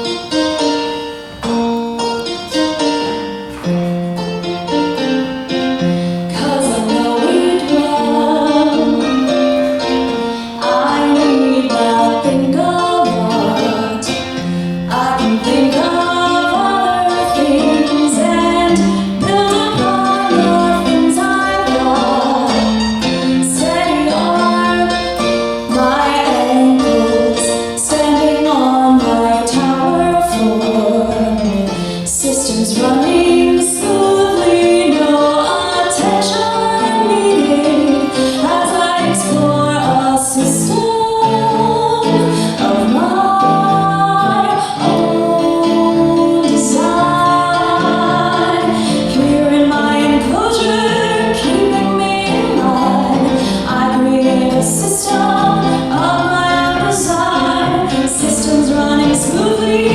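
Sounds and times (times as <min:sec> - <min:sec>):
musical accompaniment: 0:00.0 - 0:59.9
person singing: 0:06.3 - 0:59.9.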